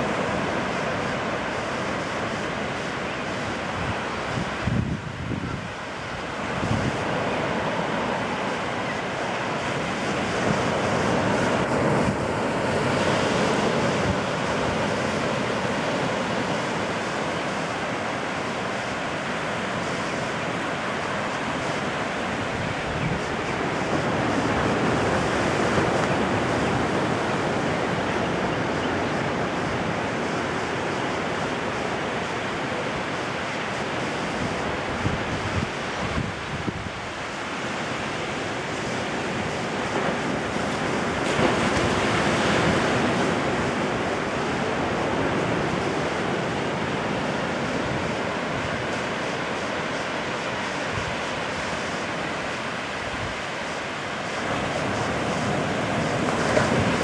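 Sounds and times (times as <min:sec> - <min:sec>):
waves washing up a beach: 0:00.0 - 0:57.0
wind buffeting microphone: 0:00.0 - 0:57.0.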